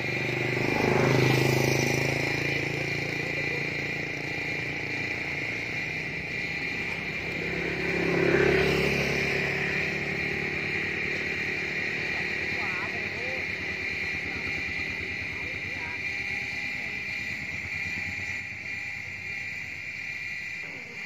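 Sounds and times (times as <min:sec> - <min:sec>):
high insect-like drone: 0:00.0 - 0:21.0
low engine-like hum: 0:00.0 - 0:21.0.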